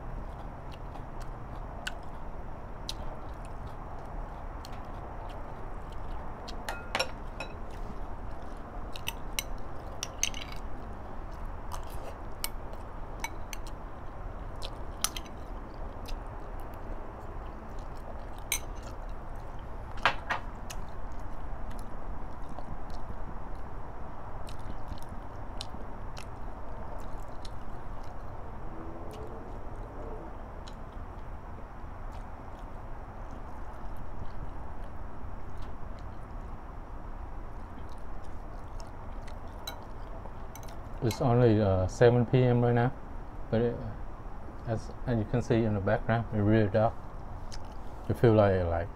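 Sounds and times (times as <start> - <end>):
person chewing food: 0.0 - 41.2, 47.1 - 48.1.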